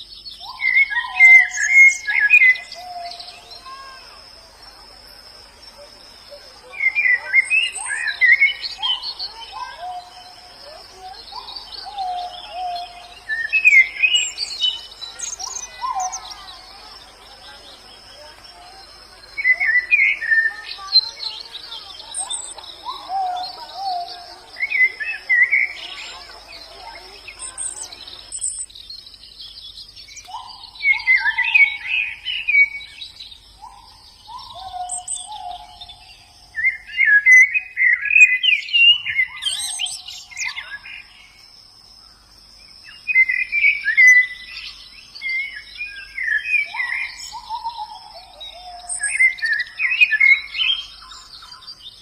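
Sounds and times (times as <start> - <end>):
small birds twittering: 0.0 - 52.0.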